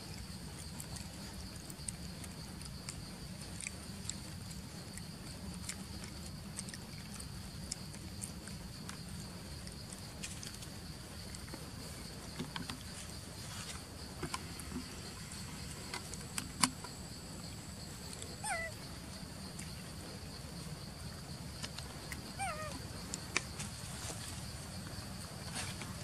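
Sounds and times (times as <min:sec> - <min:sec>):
insect chirring: 0:00.0 - 0:26.0.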